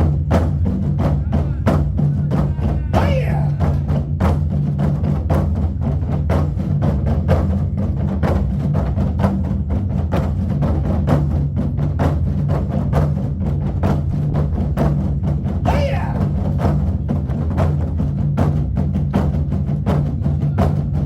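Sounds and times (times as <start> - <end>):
barrel drums beaten: 0.0 - 21.0.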